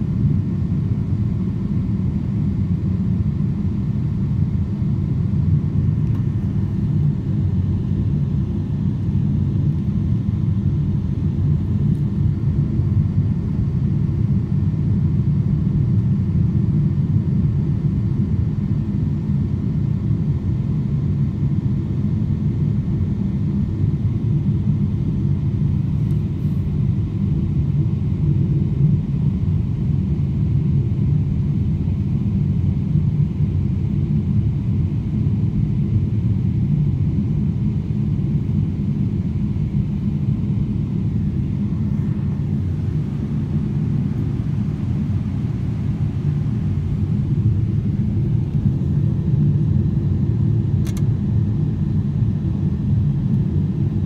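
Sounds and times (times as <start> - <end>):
jet engines idling in cabin: 0.0 - 54.0.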